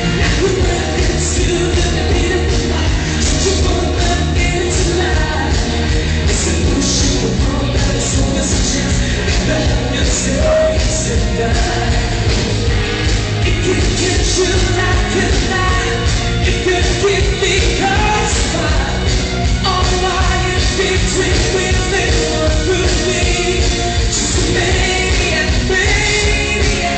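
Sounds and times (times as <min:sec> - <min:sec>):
person singing: 0:00.0 - 0:26.9
rock music: 0:00.0 - 0:26.9
steady drum beat: 0:00.0 - 0:26.9.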